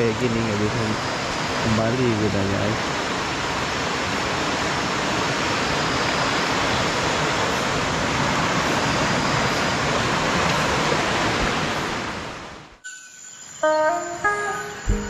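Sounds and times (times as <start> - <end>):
flooded stream rushing: 0.0 - 12.7.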